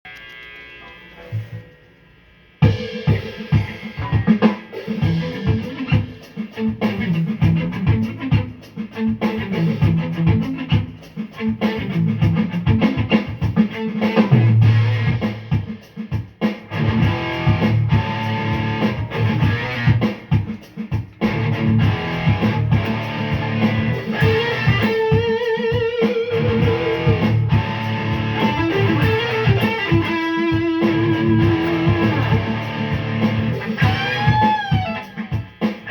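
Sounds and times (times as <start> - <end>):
rock music with guitar and drums: 2.6 - 35.9.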